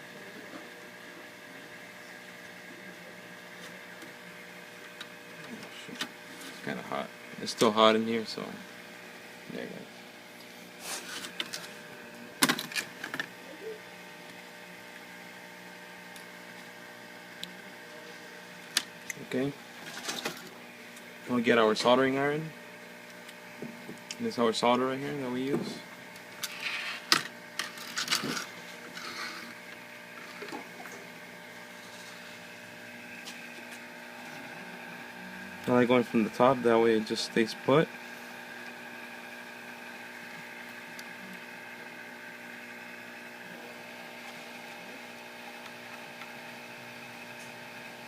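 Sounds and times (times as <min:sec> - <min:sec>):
steady electrical hum: 0:00.0 - 0:48.0.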